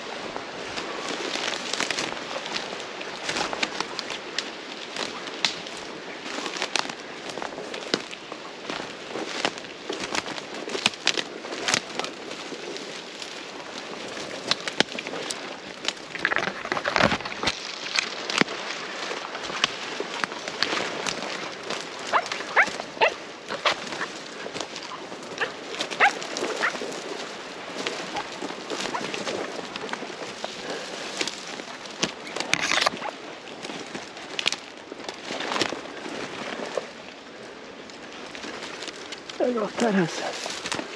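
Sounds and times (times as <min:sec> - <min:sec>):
footsteps through dead grass: 0:00.0 - 0:40.9
twigs snapping and scraping: 0:00.7 - 0:40.9.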